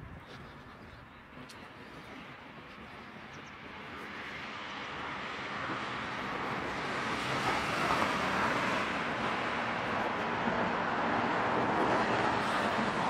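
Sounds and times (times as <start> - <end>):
vehicle approaching: 1.4 - 13.0.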